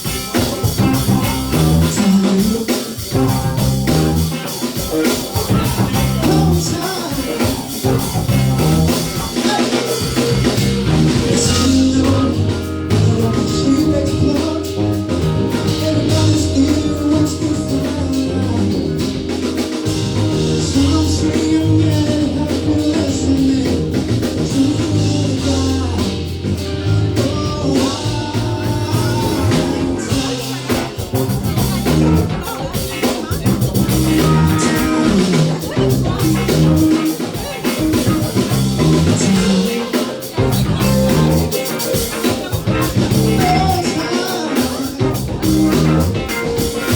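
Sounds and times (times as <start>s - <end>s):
person singing: 0.0s - 46.9s
rock band playing: 0.0s - 46.9s.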